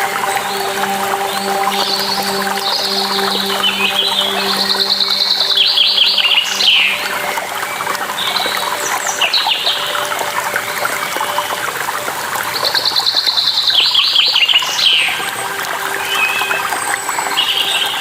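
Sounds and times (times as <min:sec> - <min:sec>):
running water trickling: 0:00.0 - 0:18.0.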